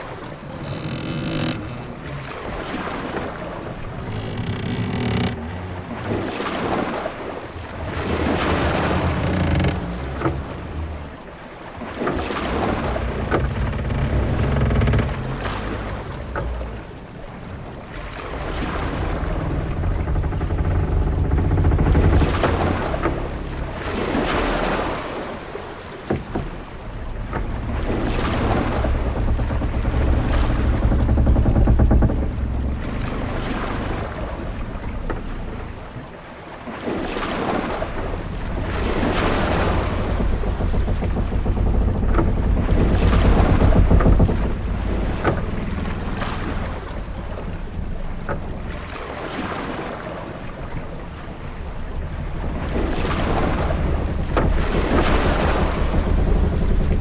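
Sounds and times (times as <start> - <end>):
deep rumble: 0.0 - 36.2, 37.0 - 57.0
waves washing against hull: 0.0 - 57.0
wind: 0.0 - 57.0.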